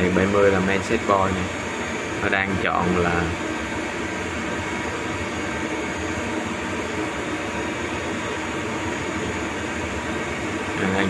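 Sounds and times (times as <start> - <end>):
cooling fans whirring: 0.0 - 11.0.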